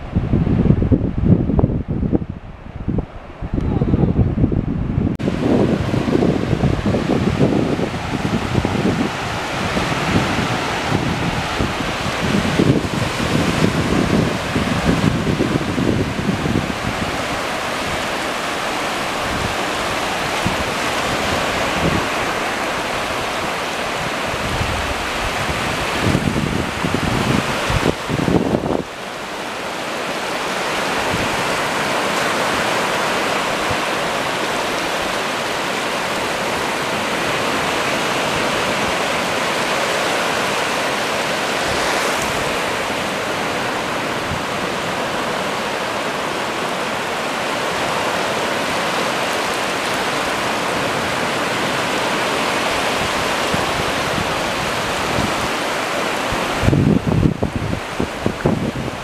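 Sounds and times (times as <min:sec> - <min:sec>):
small waves breaking on sand: 0:05.2 - 0:59.0.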